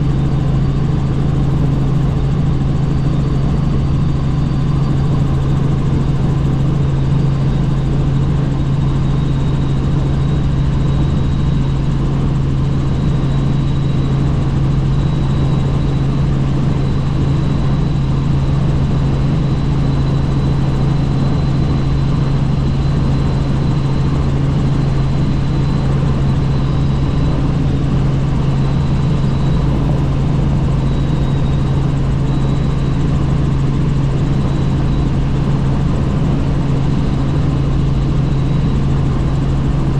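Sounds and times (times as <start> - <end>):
faint high whine: 0.0 - 39.9
helicopter engine and rotor drone: 0.0 - 39.9.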